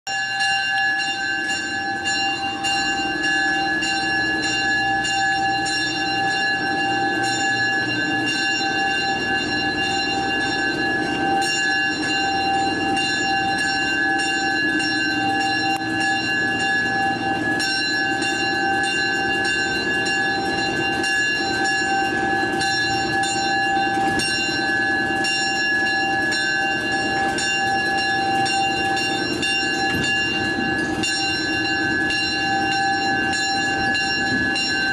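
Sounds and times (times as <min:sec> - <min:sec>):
locomotive bell ringing: 0:00.1 - 0:34.9
low rumble of rolling locomotive: 0:00.1 - 0:34.9.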